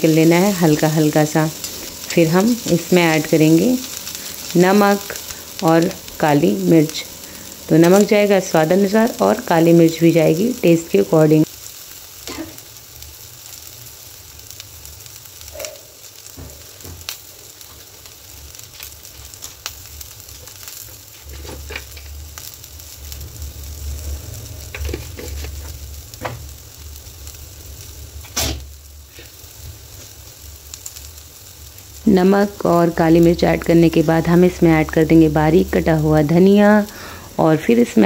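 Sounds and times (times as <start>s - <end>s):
vegetables sizzling in hot oil: 0.0s - 38.0s.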